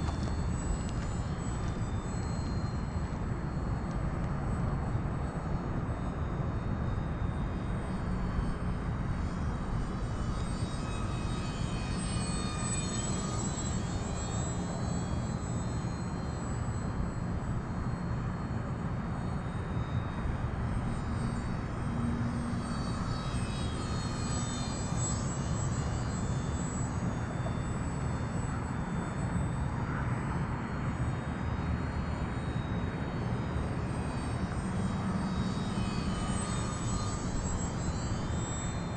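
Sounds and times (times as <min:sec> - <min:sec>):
model plane motor whining: 0:00.0 - 0:38.9.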